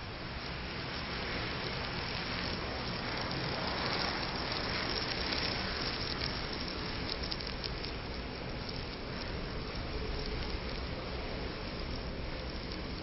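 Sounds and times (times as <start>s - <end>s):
fire burning: 0.0s - 13.0s
fire crackling: 0.0s - 13.0s.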